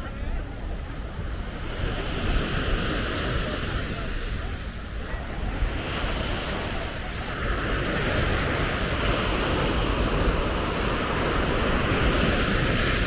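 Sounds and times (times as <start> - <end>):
waves breaking on beach: 0.0 - 13.0
wind on microphone: 0.0 - 13.0.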